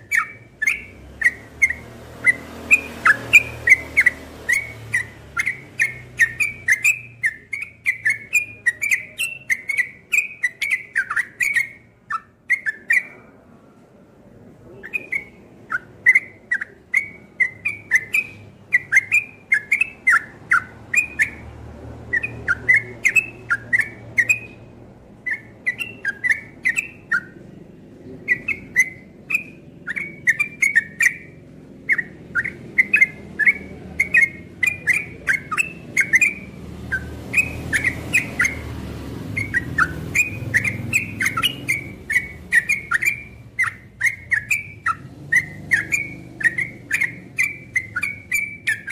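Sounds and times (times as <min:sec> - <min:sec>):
bird singing whistled notes: 0:00.0 - 0:13.3, 0:14.7 - 0:48.9.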